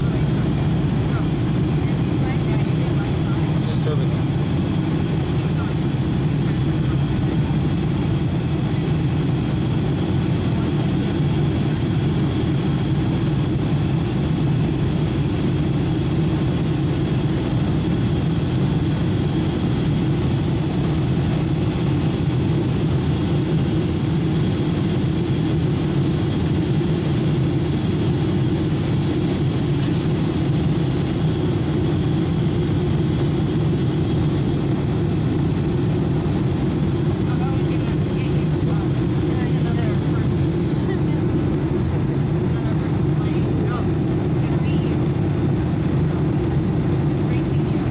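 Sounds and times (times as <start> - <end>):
jet cabin rumble: 0.0 - 47.9.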